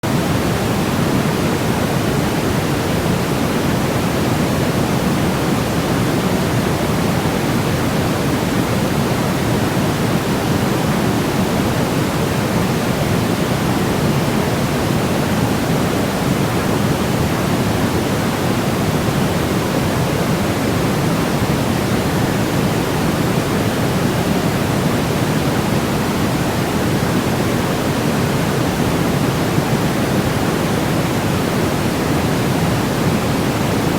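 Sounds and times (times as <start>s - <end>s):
deep steady pink noise hiss: 0.0s - 33.9s.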